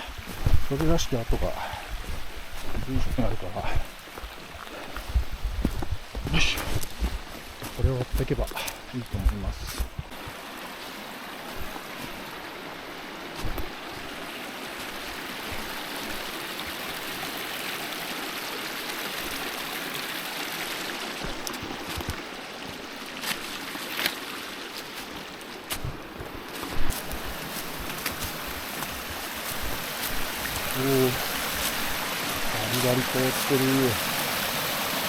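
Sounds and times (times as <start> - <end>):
mountain stream running: 0.0 - 35.0.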